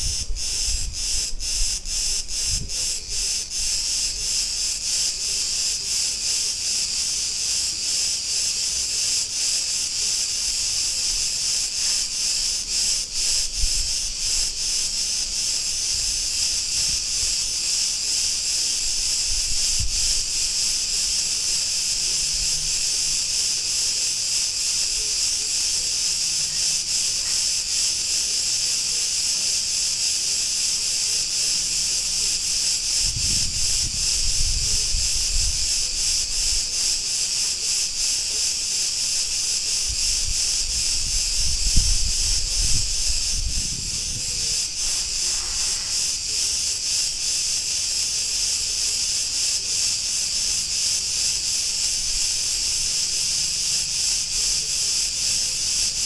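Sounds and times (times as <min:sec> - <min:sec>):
cicadas buzzing in chorus: 0:00.0 - 0:56.0.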